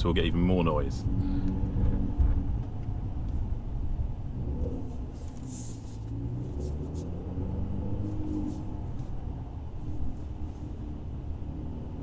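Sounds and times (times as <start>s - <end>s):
car engine rumbling inside cabin: 0.0s - 12.0s.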